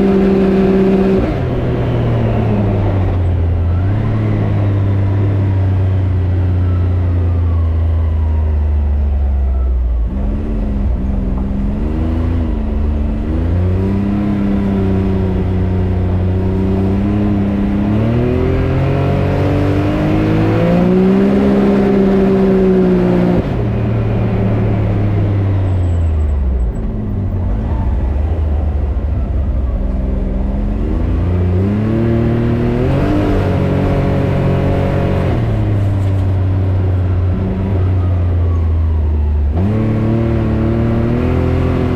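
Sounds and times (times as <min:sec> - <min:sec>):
engine revving: 0:00.0 - 0:07.6, 0:09.9 - 0:41.9.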